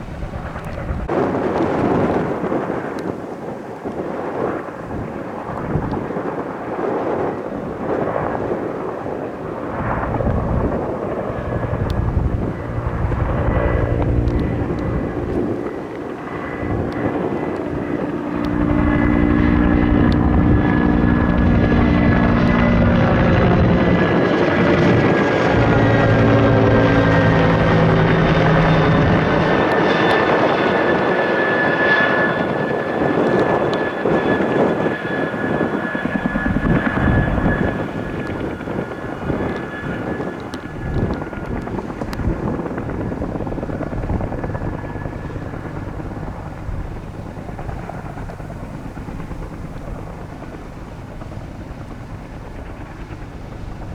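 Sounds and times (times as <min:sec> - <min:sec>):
helicopter rotor chop: 0:00.0 - 0:53.9
low-flying propeller aircraft passing: 0:00.0 - 0:53.9.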